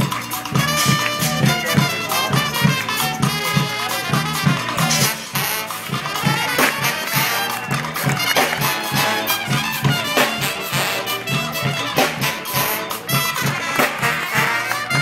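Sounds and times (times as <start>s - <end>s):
brass band playing upbeat music: 0.0s - 15.0s.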